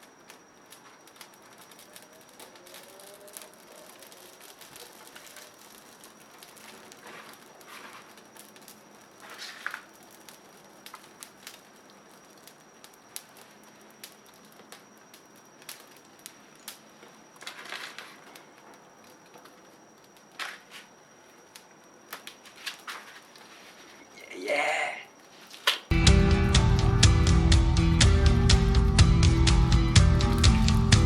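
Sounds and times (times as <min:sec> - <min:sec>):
campfire crackling and popping: 0:00.0 - 0:23.6, 0:24.2 - 0:31.0.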